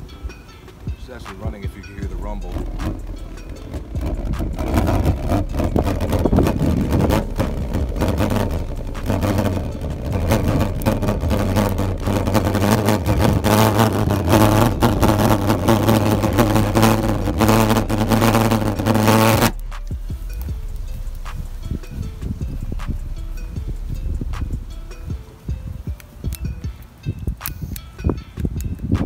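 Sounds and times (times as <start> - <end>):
pulse jet engine rumbling: 0.0 - 26.8.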